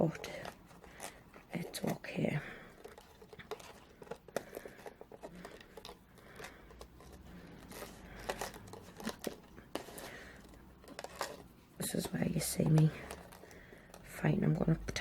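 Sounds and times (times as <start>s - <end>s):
ribbon and box rustling: 0.0s - 15.0s.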